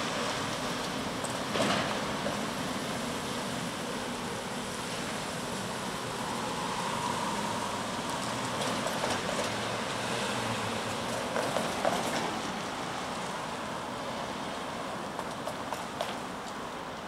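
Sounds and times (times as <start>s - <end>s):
freight train rumbling: 0.0s - 16.6s
cars passing on wet road: 0.0s - 17.0s.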